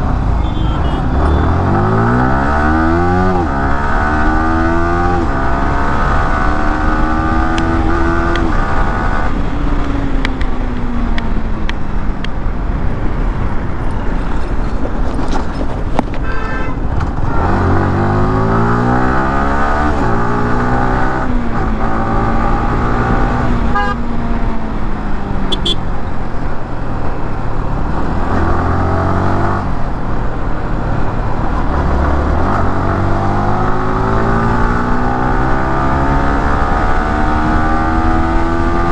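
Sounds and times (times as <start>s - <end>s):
motorcycle engine shifting gears: 0.0s - 23.7s, 24.5s - 26.0s, 27.0s - 38.9s.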